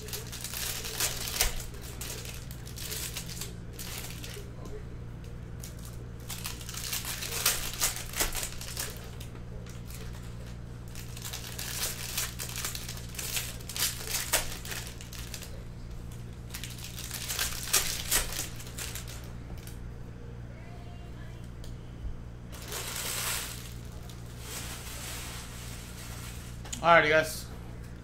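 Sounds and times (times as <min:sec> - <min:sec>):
foil wrappers crinkling: 0:00.0 - 0:04.8, 0:05.5 - 0:19.8, 0:22.5 - 0:26.9.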